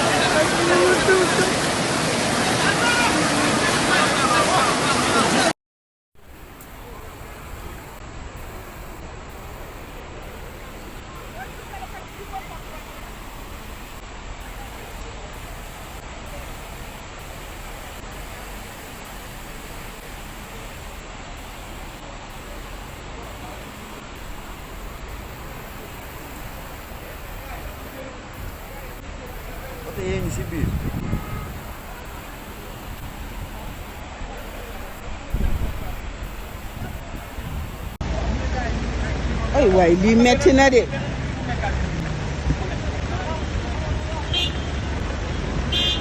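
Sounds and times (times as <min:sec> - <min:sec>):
outdoor background noise: 0:06.2 - 0:46.0.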